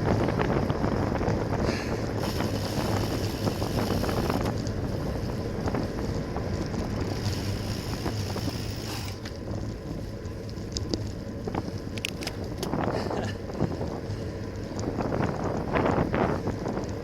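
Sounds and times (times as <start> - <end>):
road and drivetrain hum: 0.0 - 17.0
wind rushing over microphone: 0.0 - 17.0.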